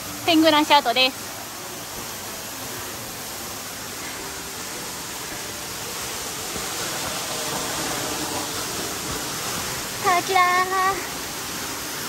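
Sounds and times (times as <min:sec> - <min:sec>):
waterfall crashing onto rocks: 0:00.0 - 0:12.0.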